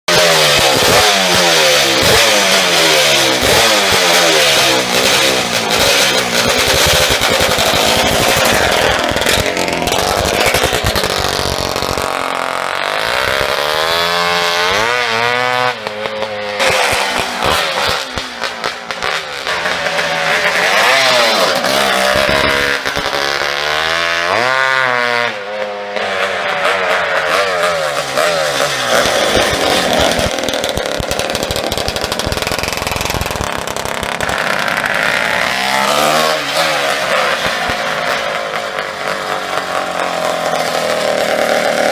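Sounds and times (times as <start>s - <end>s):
two-stroke engine revving: 0.1s - 41.9s.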